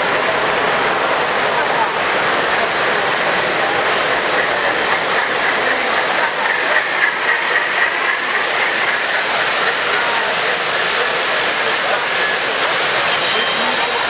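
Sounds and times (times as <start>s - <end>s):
hubbub of a crowd: 0.0s - 14.0s
model train running: 0.0s - 14.0s.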